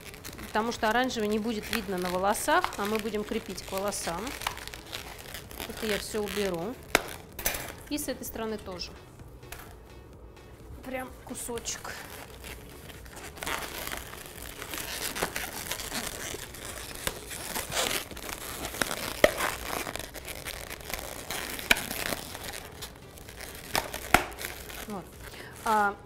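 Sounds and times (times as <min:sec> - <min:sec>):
balloons rubbing and crinkling: 0:00.0 - 0:26.0.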